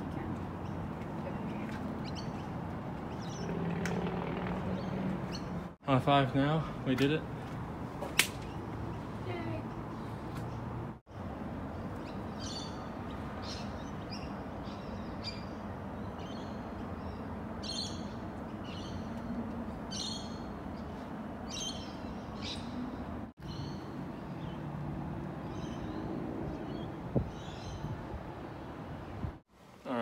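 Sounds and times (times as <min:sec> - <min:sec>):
birds chirping: 0:00.0 - 0:07.4, 0:11.6 - 0:24.7, 0:25.3 - 0:29.3.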